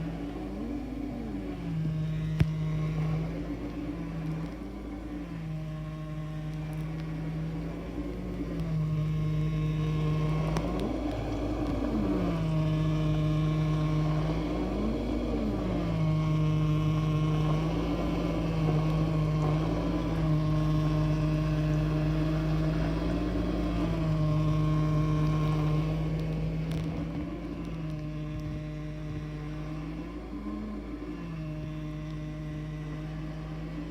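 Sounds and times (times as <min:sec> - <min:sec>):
dishwasher droning hum: 0:00.0 - 0:33.9.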